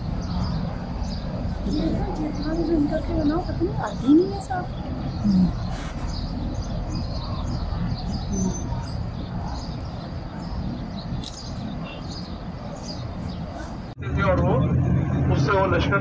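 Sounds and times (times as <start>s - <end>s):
low rumble of moving vehicle: 0.0s - 16.0s.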